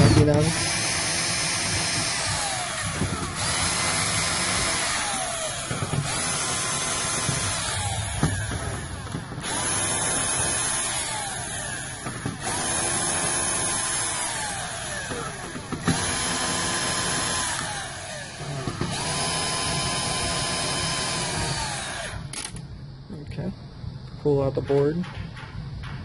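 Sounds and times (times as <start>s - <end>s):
cordless screwdriver motor whine: 0.0s - 8.8s, 9.4s - 22.6s.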